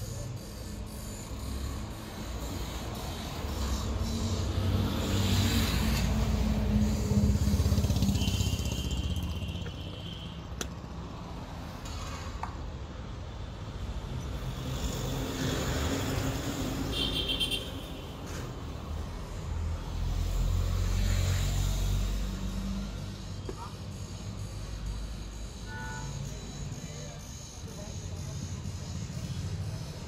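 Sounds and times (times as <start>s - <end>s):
road vehicles rumbling past: 0.0s - 26.8s.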